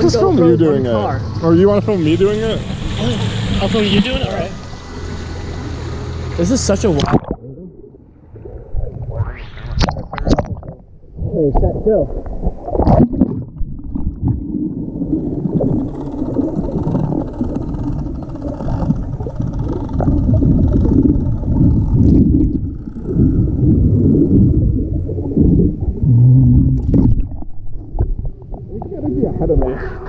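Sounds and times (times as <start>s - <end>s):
low hum through water: 0.0s - 30.0s
underwater rumble and sloshing: 0.0s - 30.0s.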